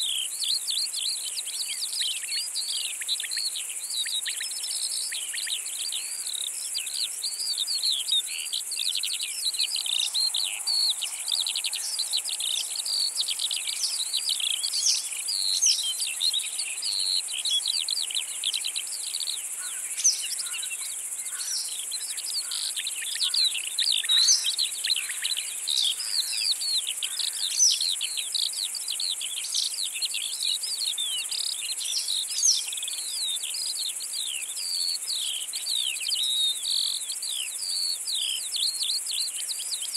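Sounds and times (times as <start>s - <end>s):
insect chorus in grass: 0.0s - 39.9s
twittering birdsong: 0.0s - 39.9s.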